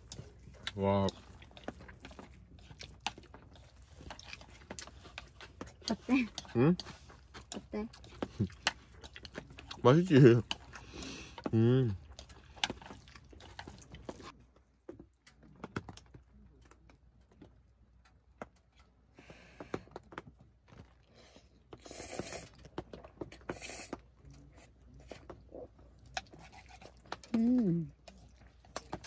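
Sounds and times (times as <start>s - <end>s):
people chewing noodles: 0.0s - 29.0s.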